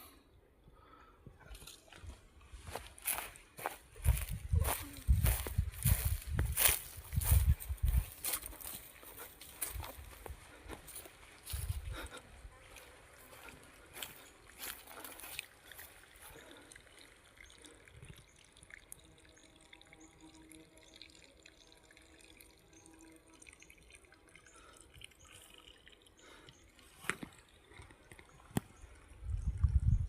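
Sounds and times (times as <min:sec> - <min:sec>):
water trickling and dripping: 0:03.0 - 0:30.0.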